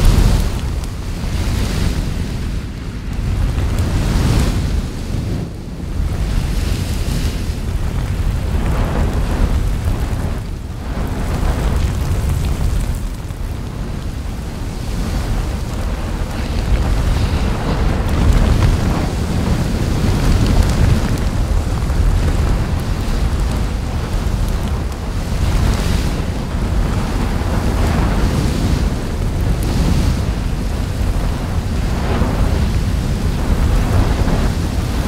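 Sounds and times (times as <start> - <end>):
deep rumble with hiss: 0.0 - 35.0.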